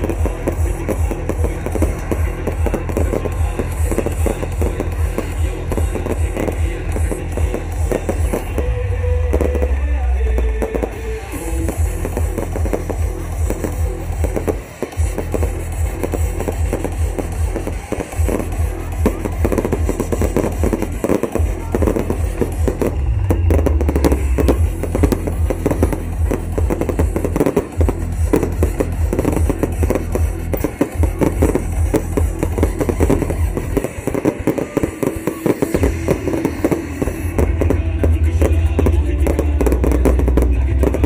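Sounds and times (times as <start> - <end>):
fireworks bangs and crackles: 0.0 - 41.0
music with heavy bass: 0.0 - 41.0.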